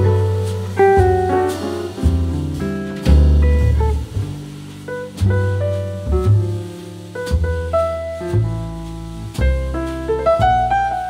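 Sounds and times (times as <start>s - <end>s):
deep bass notes: 0.0s - 11.0s
soft jazzy piano music: 0.0s - 11.0s.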